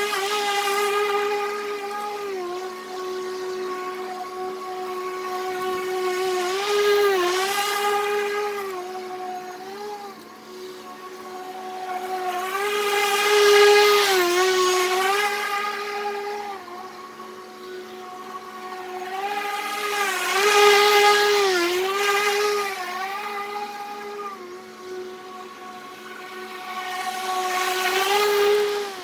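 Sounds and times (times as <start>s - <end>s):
electric lawn mower whine: 0.0s - 29.0s.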